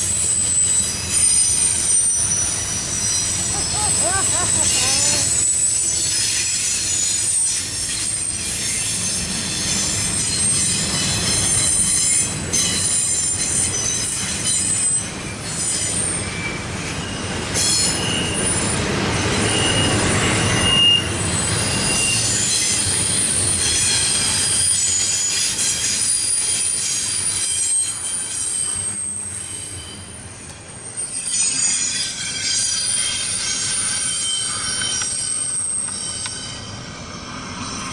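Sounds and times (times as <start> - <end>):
freight train wheels squealing: 0.0 - 37.9
train low rumble: 0.0 - 37.9.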